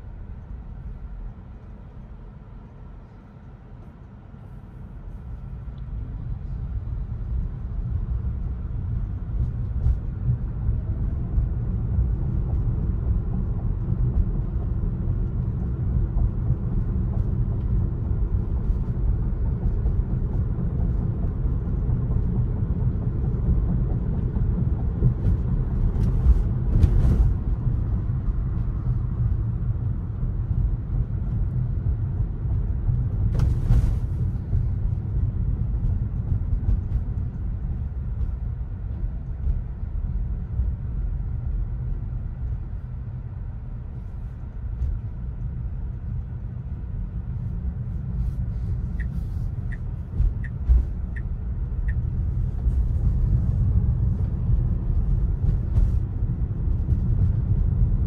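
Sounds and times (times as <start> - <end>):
car road and tyre noise: 0.0 - 58.0.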